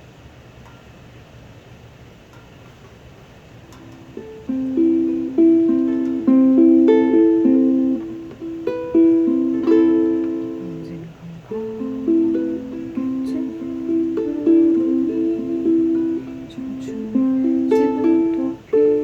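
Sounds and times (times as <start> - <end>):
ukulele played slowly: 3.8 - 19.0.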